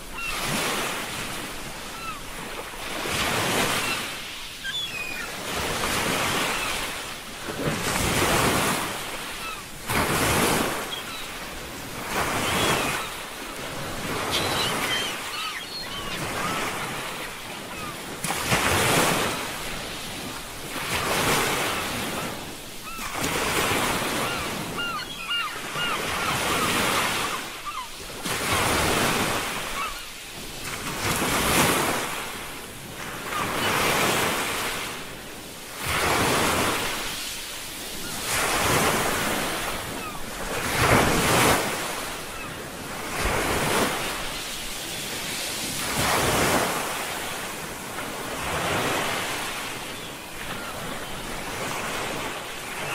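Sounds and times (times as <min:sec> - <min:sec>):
sea waves washing in and out: 0:00.0 - 0:52.9.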